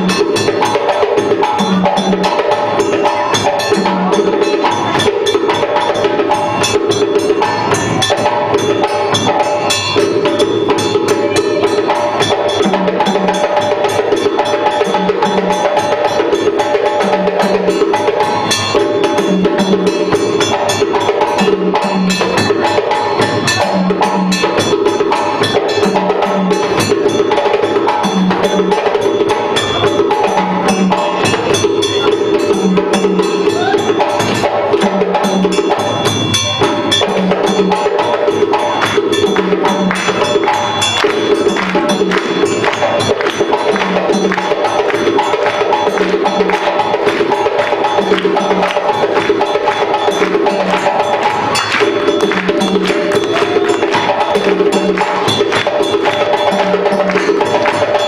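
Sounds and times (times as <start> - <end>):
sharp clicking percussion: 0.0 - 58.0
struck drums: 0.0 - 58.0.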